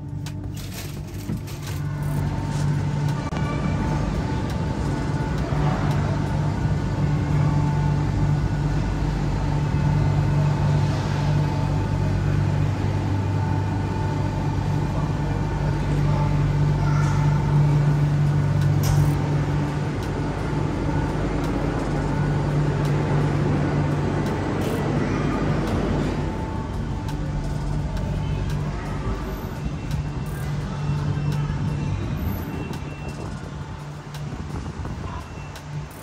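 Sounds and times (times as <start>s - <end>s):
faint constant whine: 0.0s - 36.0s
low mechanical hum: 0.0s - 36.0s.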